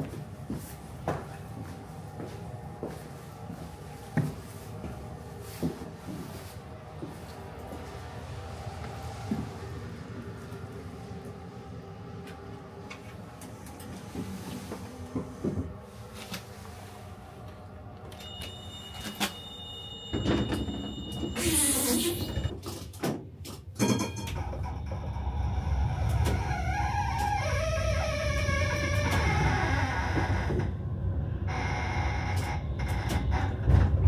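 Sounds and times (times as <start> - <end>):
tram running gear rumble: 0.0 - 21.4, 24.4 - 34.0.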